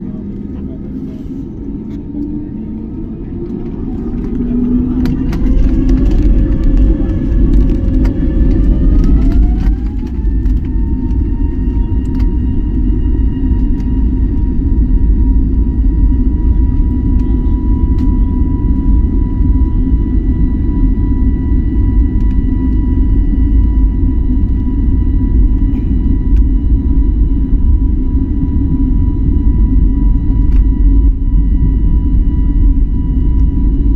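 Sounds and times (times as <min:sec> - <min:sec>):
heavy low rumble: 0:00.0 - 0:33.9
jet engines spooling up: 0:00.0 - 0:33.9.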